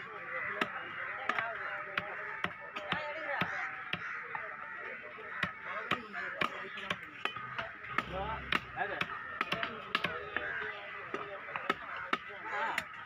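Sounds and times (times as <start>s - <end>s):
voices chattering: 0.0s - 13.0s.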